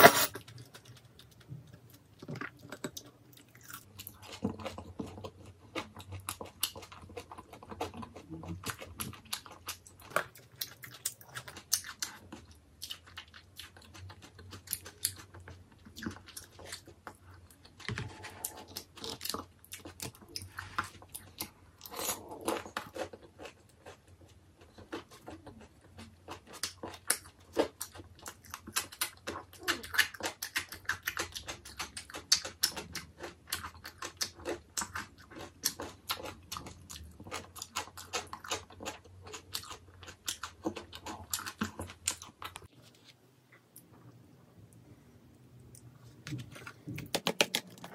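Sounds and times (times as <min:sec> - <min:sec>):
person chewing crunchy food: 0:00.0 - 0:43.1.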